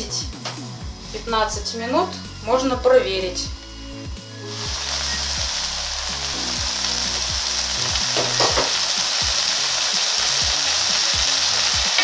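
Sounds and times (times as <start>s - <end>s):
food sizzling in pot: 1.9s - 12.0s.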